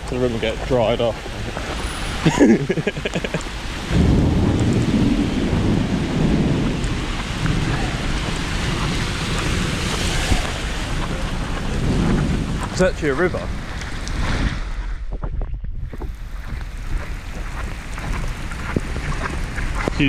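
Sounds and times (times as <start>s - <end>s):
heavy rain pouring: 0.0s - 14.6s, 16.1s - 20.0s
thunder rumbling: 0.0s - 20.0s.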